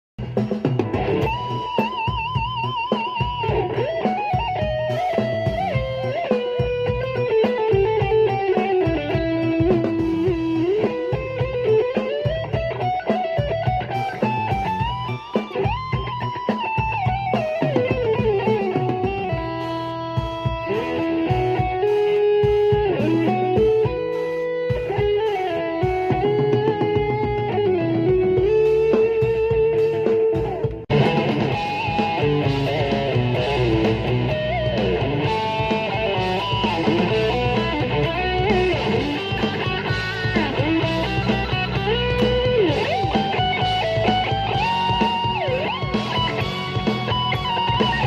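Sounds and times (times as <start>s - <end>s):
bass and drum rhythm: 0.2s - 48.0s
electric guitar lead solo: 0.2s - 48.0s.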